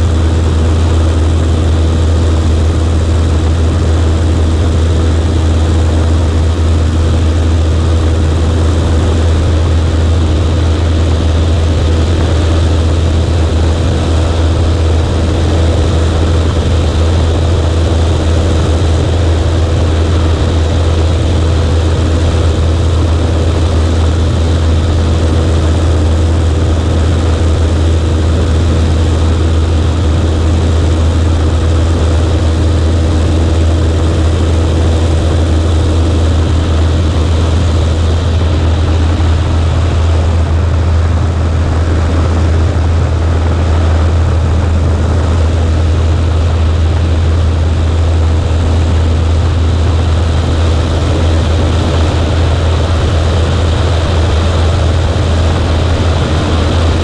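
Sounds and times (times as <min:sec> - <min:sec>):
airplane engine droning: 0:00.0 - 0:57.0.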